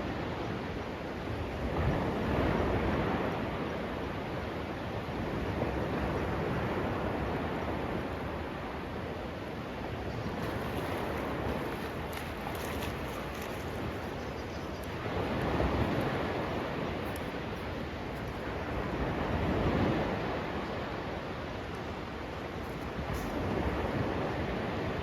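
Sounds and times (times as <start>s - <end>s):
waves washing onto beach: 0.0s - 25.0s.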